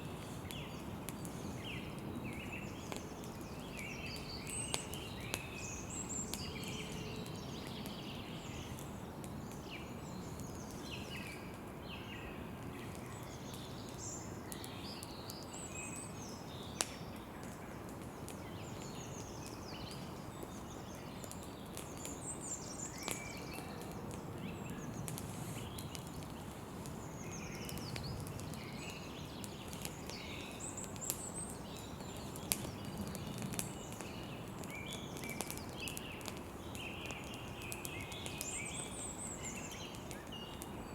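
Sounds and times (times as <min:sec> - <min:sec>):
campfire crackling and popping: 0:00.0 - 0:40.8.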